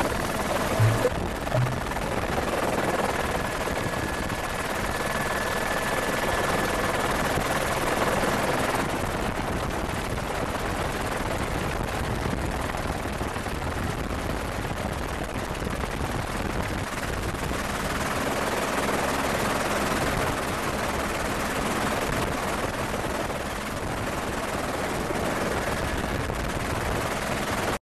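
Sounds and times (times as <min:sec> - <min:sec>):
helicopter rotor and turbine: 0:00.0 - 0:27.8.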